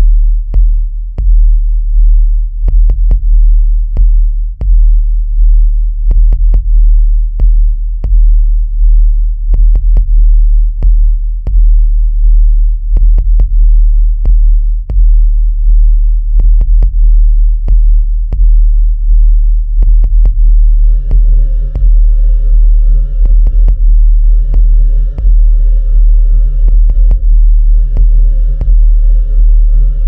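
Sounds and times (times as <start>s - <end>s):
deep bass tone: 0.0s - 30.0s.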